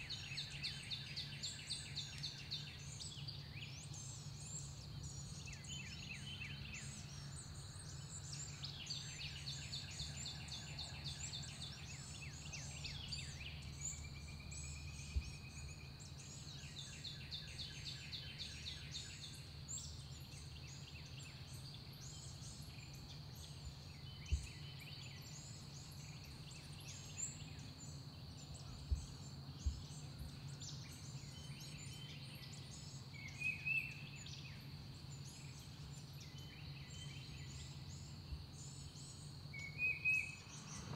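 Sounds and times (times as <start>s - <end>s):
songbird trilled songs: 0.0s - 40.9s.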